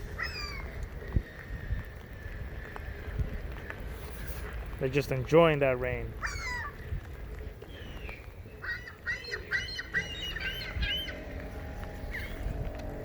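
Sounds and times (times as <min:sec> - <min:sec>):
seagulls calling: 0:00.0 - 0:04.6, 0:06.1 - 0:13.0.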